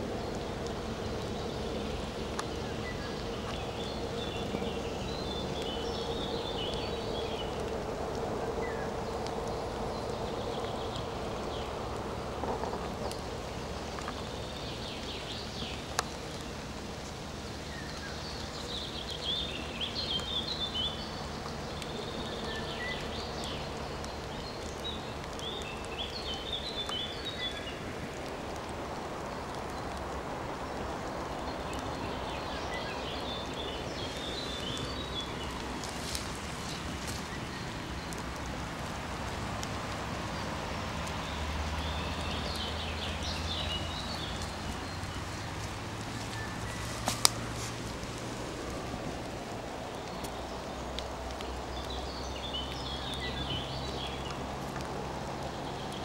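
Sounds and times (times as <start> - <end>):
birds chirping: 0.0 - 56.0
steady background noise: 0.0 - 56.0.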